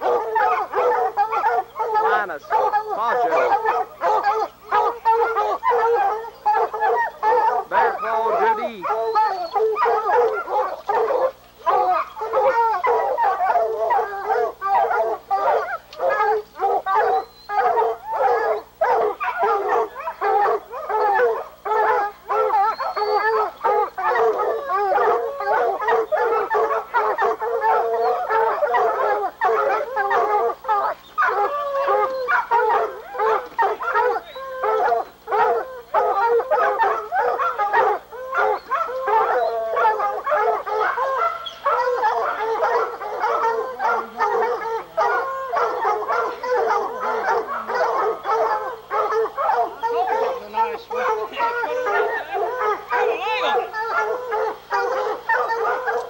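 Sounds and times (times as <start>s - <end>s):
hounds barking and baying: 0.0s - 56.0s.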